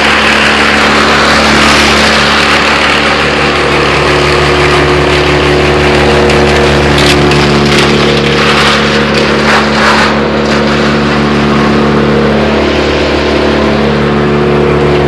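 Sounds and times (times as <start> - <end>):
branches cracking in chipper: 0.0 - 15.0
wood chipper engine running: 0.0 - 15.0.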